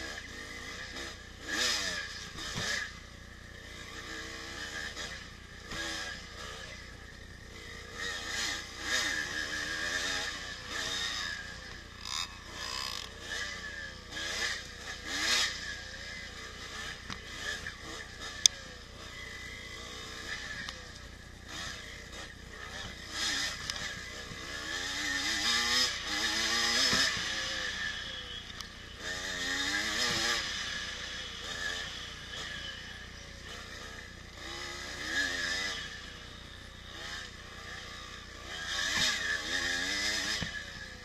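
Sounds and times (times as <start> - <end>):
two-stroke motorbike engine revving: 0.0 - 41.0.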